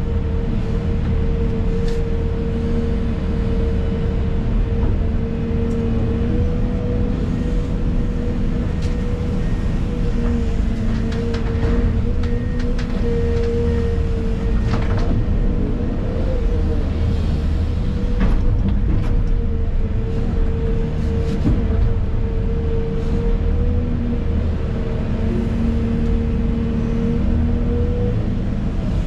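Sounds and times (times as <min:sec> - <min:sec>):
constant whine: 0:00.0 - 0:29.0
excavator diesel engine rumble: 0:00.0 - 0:29.0.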